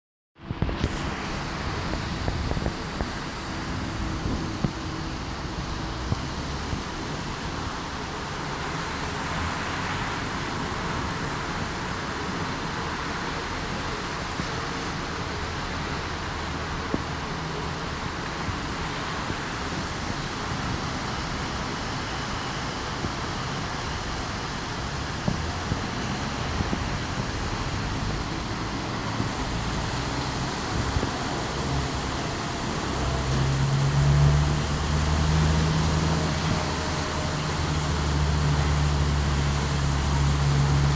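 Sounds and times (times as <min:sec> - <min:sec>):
heavy rain hissing: 0:00.6 - 0:40.9.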